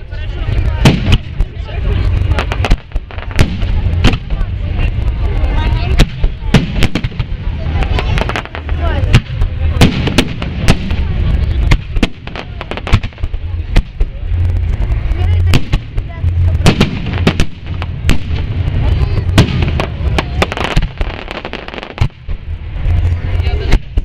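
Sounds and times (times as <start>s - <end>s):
fireworks bursting with sharp bangs: 0.0s - 24.0s
low rumble: 0.0s - 24.0s.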